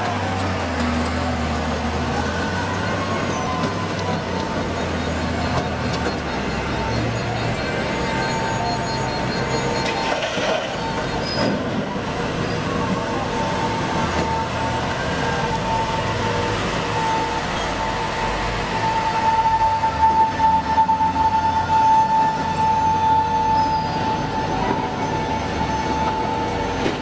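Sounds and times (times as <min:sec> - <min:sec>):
dump truck driving past: 0:00.0 - 0:27.0.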